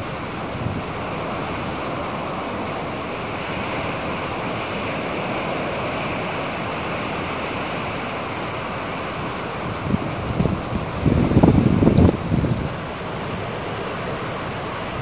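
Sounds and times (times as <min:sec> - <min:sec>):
strong wind rushing through trees: 0:00.0 - 0:15.0.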